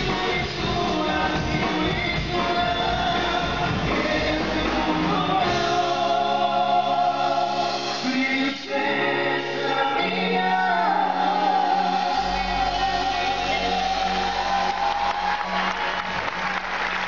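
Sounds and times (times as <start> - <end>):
voices singing: 0.0 - 14.9
band playing: 0.0 - 17.0.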